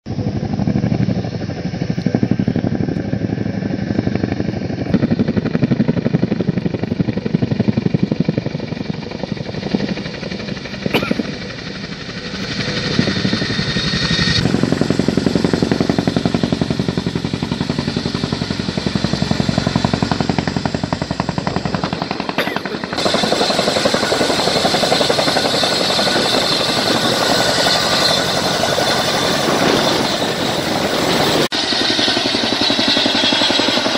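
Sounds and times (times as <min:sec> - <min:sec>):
turbine noise: 0:00.1 - 0:32.5
helicopter rotor blades thudding: 0:00.1 - 0:33.9.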